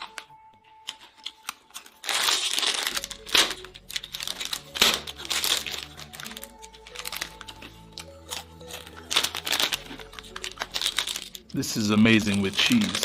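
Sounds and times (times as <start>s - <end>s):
background music: 0.0s - 13.0s
plastic snack bag crinkling: 0.0s - 13.0s.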